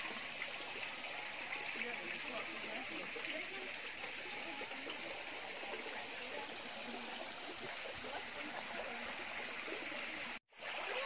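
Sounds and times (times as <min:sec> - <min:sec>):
waterfall and stream running: 0:00.0 - 0:11.0.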